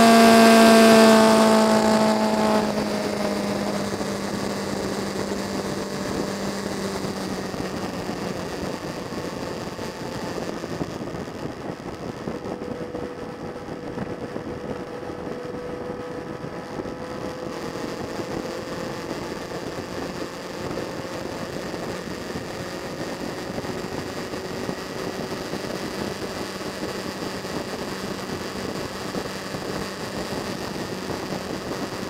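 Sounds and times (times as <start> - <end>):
vehicle engine cruising: 0.0 - 32.0
wind and road noise: 0.0 - 32.0.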